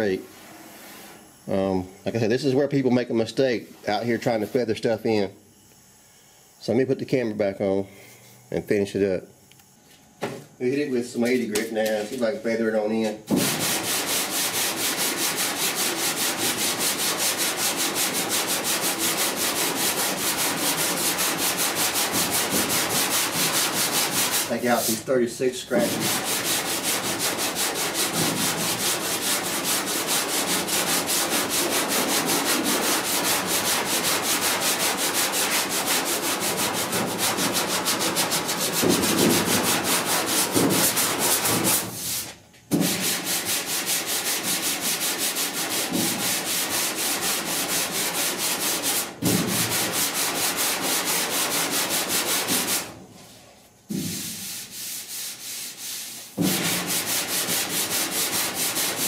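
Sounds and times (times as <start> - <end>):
sandpaper scraping strokes: 0.0 - 5.0, 10.8 - 59.0.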